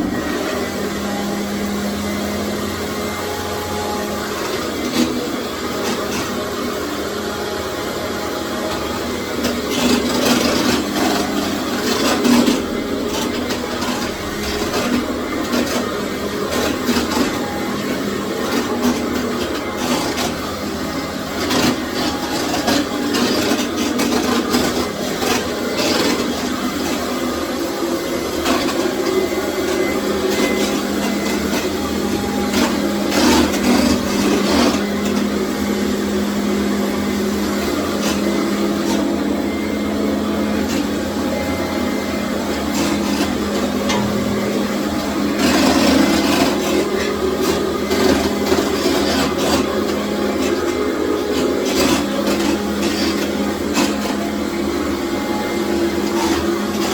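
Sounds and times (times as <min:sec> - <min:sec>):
vacuum cleaner running: 0:00.0 - 0:56.9
floor head clicking and scraping on tile: 0:00.1 - 0:56.9.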